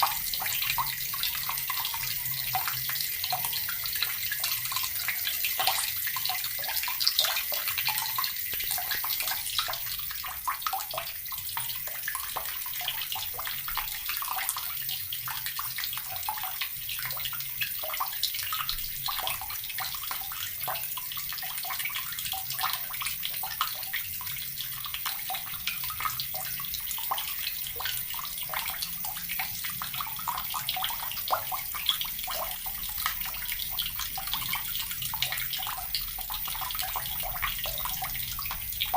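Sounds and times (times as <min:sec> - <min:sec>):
tap water splashing into basin: 0:00.0 - 0:38.9.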